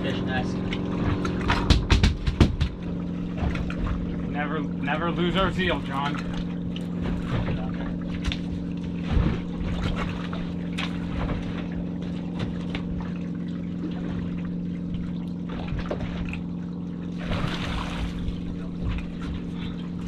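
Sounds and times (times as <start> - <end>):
outboard motors idling: 0.0 - 20.0
water sloshing against hull: 0.0 - 20.0.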